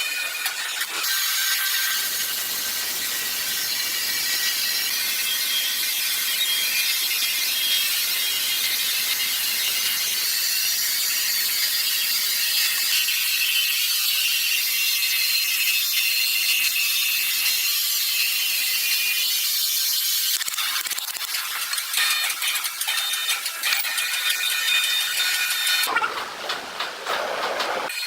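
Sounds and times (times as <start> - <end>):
sawmill machinery running: 0.0 - 28.0.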